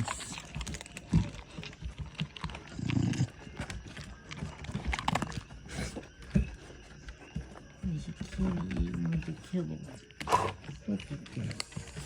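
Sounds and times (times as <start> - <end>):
dogs crunching dry kibble: 0.0 - 12.0.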